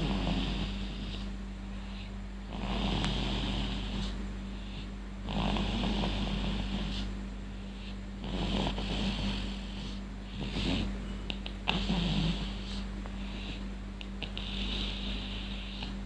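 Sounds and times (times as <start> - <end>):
snoring: 0.0 - 1.3, 2.5 - 4.2, 4.8 - 7.1, 7.8 - 13.6, 14.2 - 16.0
steady low hum: 0.0 - 16.0.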